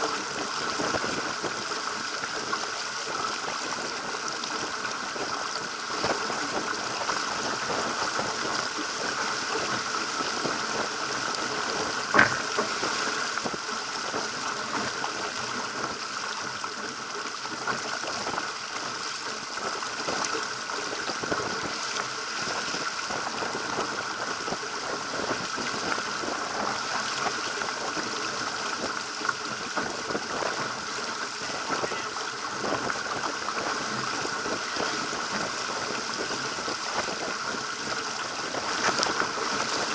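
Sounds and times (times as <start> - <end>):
water splashing along boat hull: 0.0 - 39.9.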